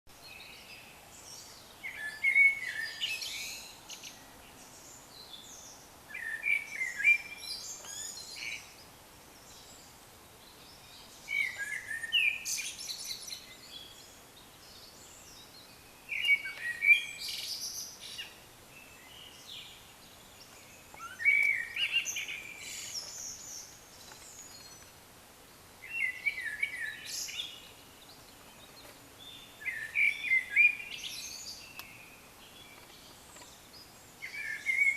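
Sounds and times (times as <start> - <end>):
faint background hiss: 0.1 - 34.9
songbird singing trills: 0.1 - 34.9.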